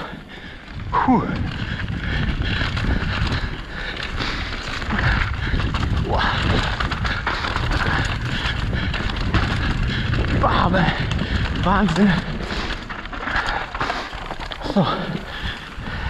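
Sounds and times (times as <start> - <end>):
bike clattering over bumps: 0.0 - 16.0
bike tyres rumbling over dirt: 0.0 - 16.0
wind buffeting microphone: 0.0 - 16.0.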